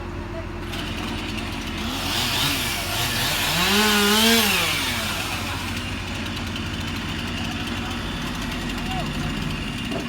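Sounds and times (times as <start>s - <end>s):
chainsaw revving and idling: 0.6s - 10.0s.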